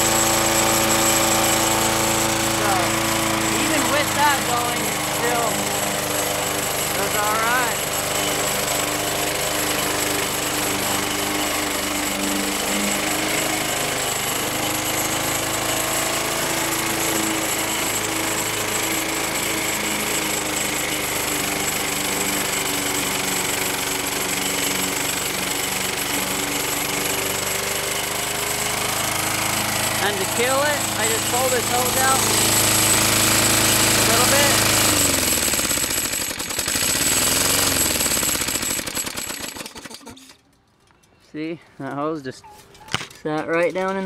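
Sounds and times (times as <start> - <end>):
lawn mower engine running: 0.0 - 40.5.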